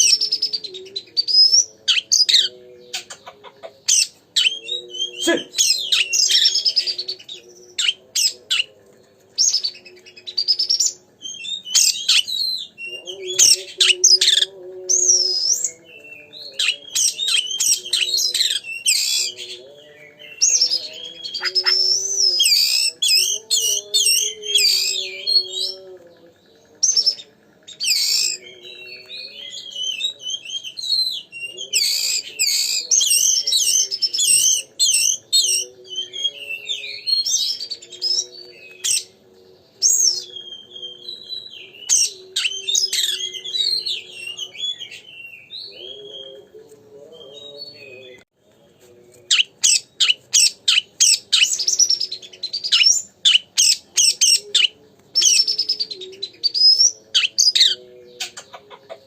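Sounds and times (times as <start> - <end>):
songbird singing whistles and chatter: 0.0 - 59.0.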